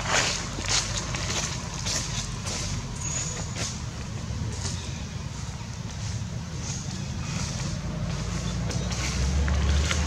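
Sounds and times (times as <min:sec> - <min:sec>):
dry leaves crackling: 0:00.0 - 0:10.0.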